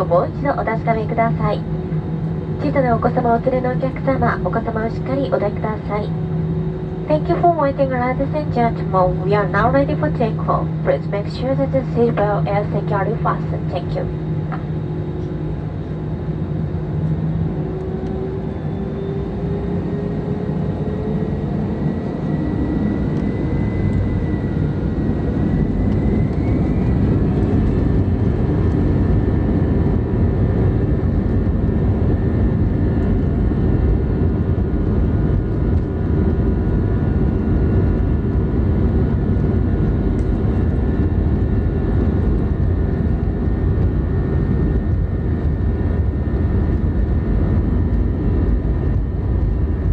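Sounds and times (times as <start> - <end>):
jet engine roar: 0.0 - 49.9.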